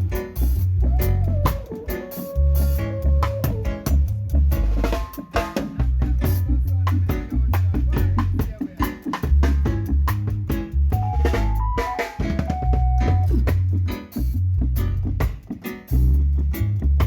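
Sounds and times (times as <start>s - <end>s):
heavy bass guitar: 0.0s - 5.0s, 5.7s - 8.6s, 9.2s - 17.0s
drum kit beating: 0.0s - 17.0s.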